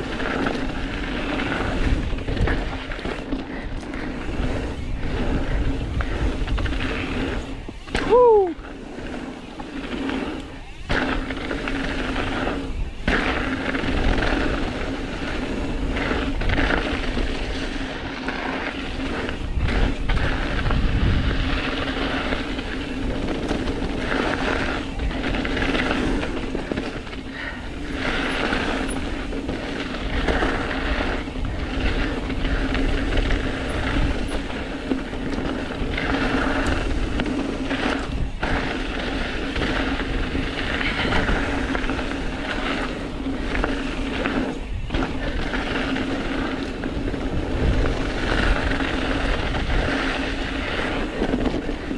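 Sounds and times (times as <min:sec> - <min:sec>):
bike knocking and rattling: 0:00.0 - 0:51.9
tyres rolling over dirt and rock: 0:00.0 - 0:51.9
wind rumbling on microphone: 0:00.0 - 0:51.9.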